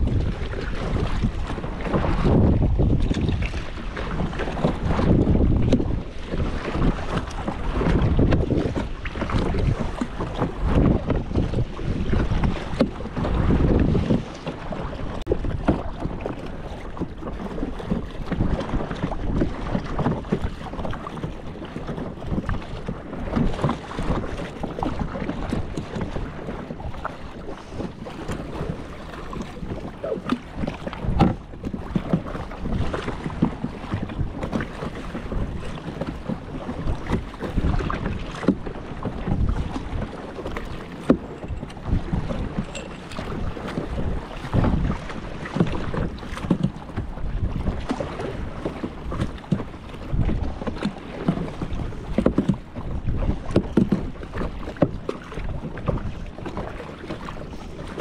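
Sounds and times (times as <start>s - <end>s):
paddle splashing in water: 0.0s - 58.0s
wind buffeting microphone: 0.0s - 58.0s.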